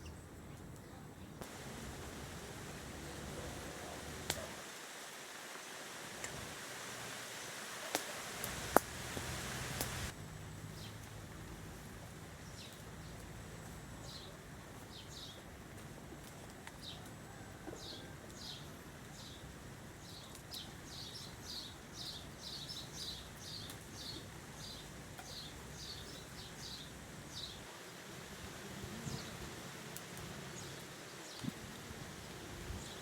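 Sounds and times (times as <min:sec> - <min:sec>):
faint low background noise: 0:00.0 - 0:33.0.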